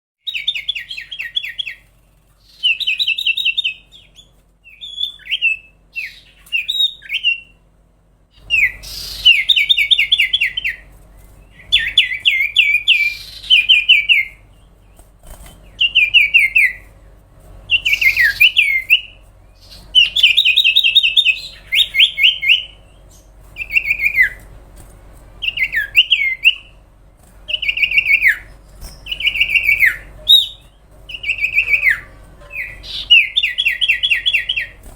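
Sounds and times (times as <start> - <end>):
bird singing trilled notes: 0.2 - 7.6, 8.3 - 16.9, 17.6 - 24.5, 25.4 - 34.9
faint low hum: 0.2 - 34.9.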